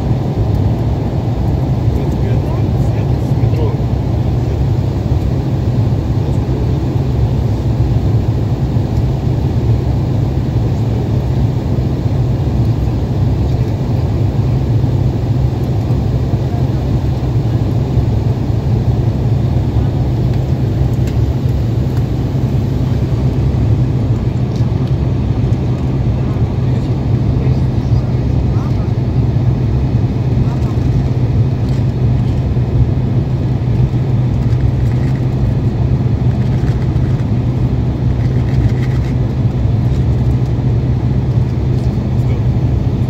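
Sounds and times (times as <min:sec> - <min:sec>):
airliner cabin engine drone: 0:00.0 - 0:43.0.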